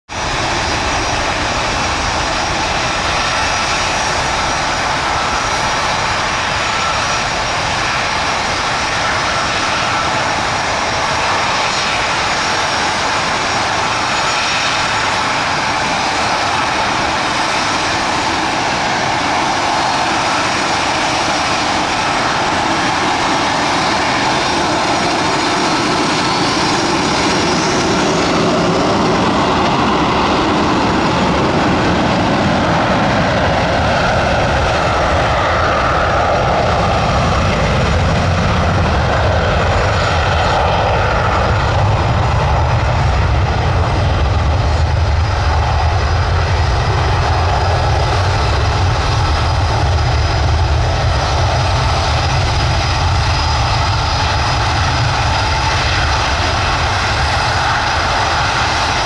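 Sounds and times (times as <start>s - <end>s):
jet engines running: 0.1s - 59.0s.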